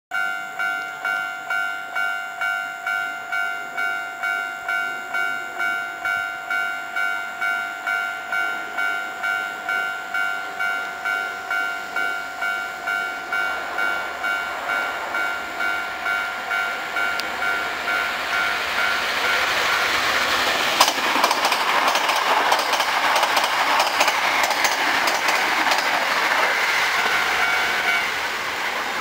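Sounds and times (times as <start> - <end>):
level-crossing warning bell: 0.1 - 28.5
approaching train running noise: 0.2 - 29.0.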